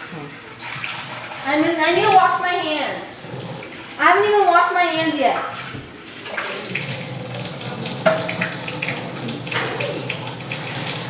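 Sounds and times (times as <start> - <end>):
hands washing under water: 0.0 - 11.0
tap water running into sink: 0.0 - 11.0.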